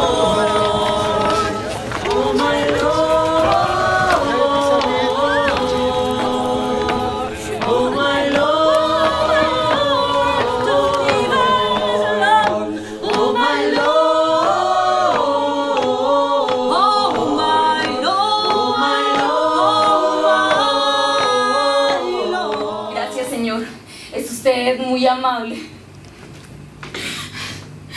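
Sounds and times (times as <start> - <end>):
voices singing in harmony: 0.0 - 23.9.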